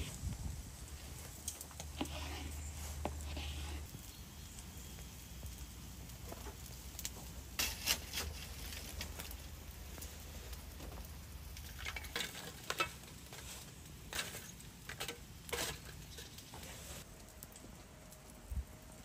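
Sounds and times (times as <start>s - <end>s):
charcoal fire crackling: 0.0s - 19.0s.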